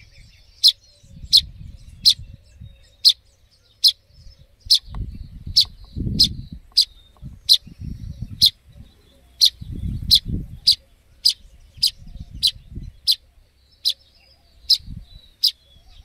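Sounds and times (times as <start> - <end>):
fledgling songbird chirping: 0.0 - 16.0.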